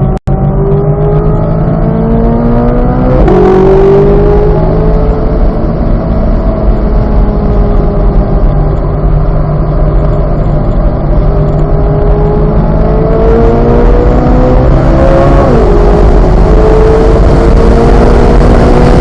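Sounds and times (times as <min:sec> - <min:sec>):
car engine running hard: 0:00.0 - 0:19.0
heavy wind: 0:00.0 - 0:19.0
road rumble: 0:00.0 - 0:19.0.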